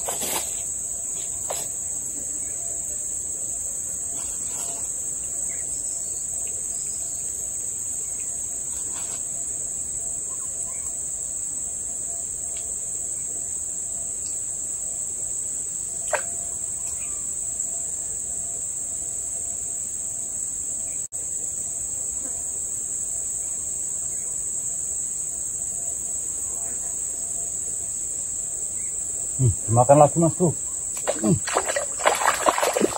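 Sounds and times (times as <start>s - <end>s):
insect chorus droning: 0.0s - 32.9s.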